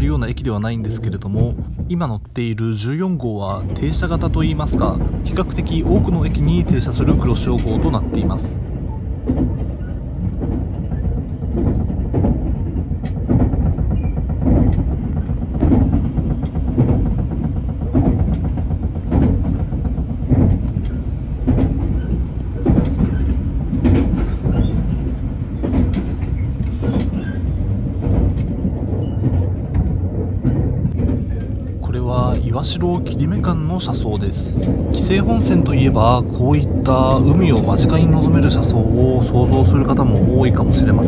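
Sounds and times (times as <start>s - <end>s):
train rumble inside carriage: 0.0s - 41.0s
wheels clacking over rail joints: 0.0s - 41.0s.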